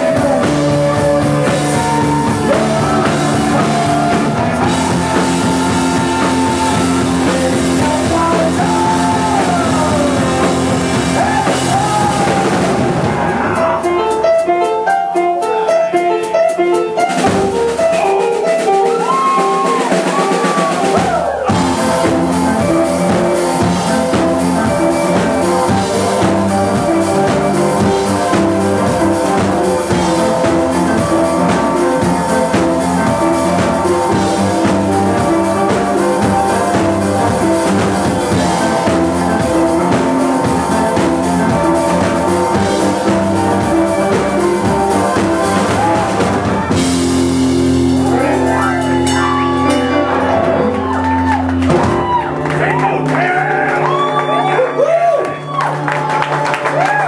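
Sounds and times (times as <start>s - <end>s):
electric guitar bending notes: 0.0s - 56.2s
drums: 0.0s - 57.0s
rock band playing: 0.0s - 57.0s.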